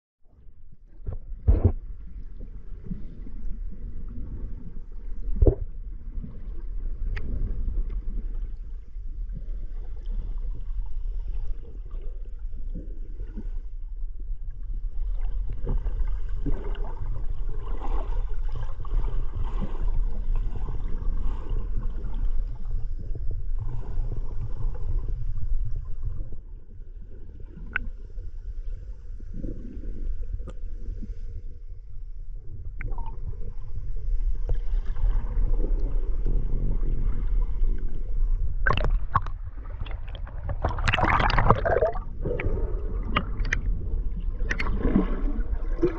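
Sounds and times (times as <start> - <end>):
underwater rumble and gurgling: 0.2 - 45.9.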